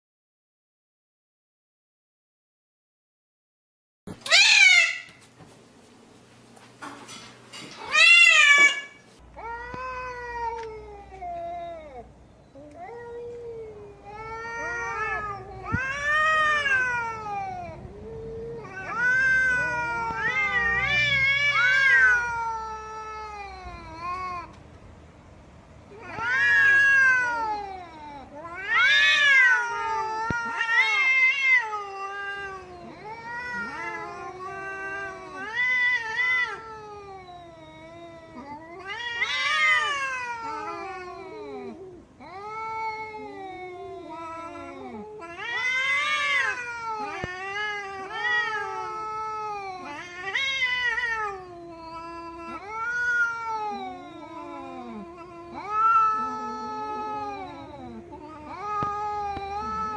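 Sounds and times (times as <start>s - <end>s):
cat meowing and yowling: 4.2s - 5.2s, 7.8s - 24.6s, 25.9s - 59.9s.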